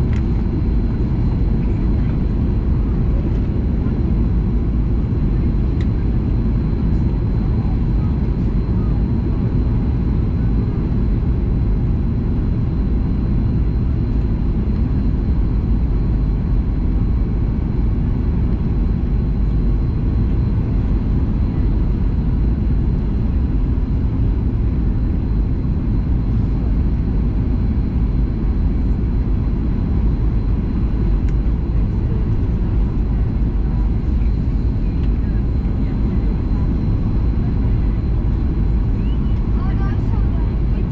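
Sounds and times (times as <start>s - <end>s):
airplane cabin engine roar: 0.0s - 40.9s.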